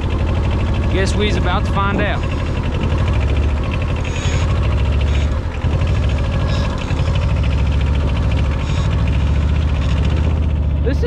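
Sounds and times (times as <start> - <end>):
atv engine running under load: 0.0 - 11.0.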